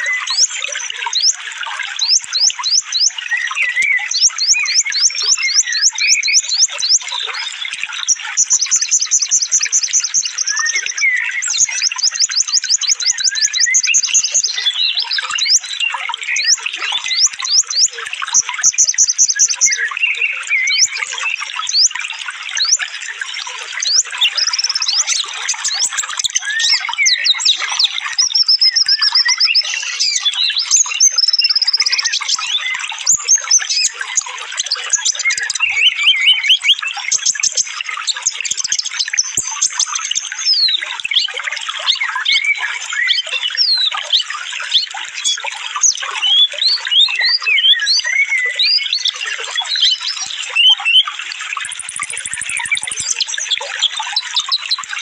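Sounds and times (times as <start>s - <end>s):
songbirds singing and trilling: 0.0s - 55.0s.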